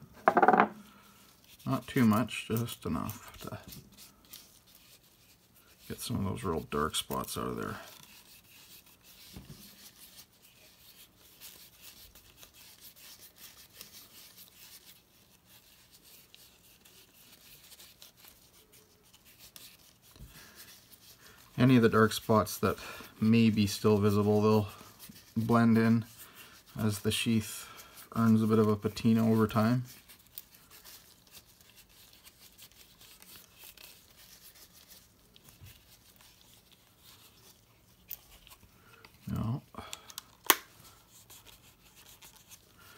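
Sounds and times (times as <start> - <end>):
rubbing leather sheath: 0.1 - 42.9.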